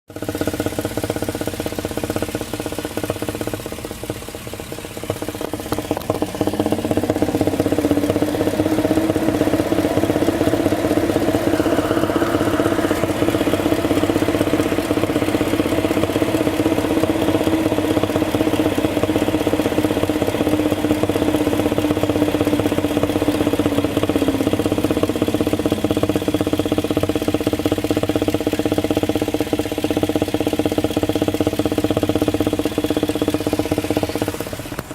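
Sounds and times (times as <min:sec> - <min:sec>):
engine idling and revving: 0:00.1 - 0:34.9
intake thumping: 0:01.0 - 0:30.0.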